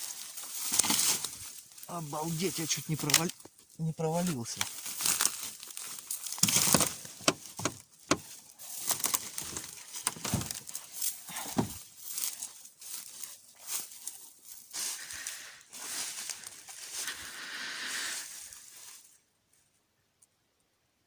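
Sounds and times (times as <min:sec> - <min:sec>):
twigs cracking and snapping: 0:00.0 - 0:17.3
footsteps crunching through dry brush: 0:00.0 - 0:19.2.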